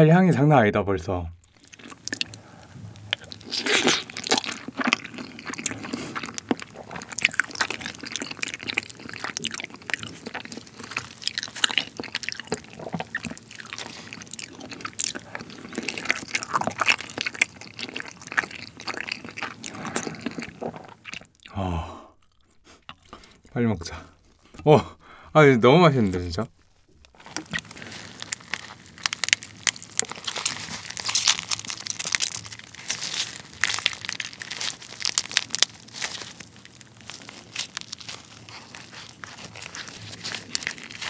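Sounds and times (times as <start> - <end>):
person chewing with mouth clicks: 1.4 - 24.7, 26.8 - 41.0.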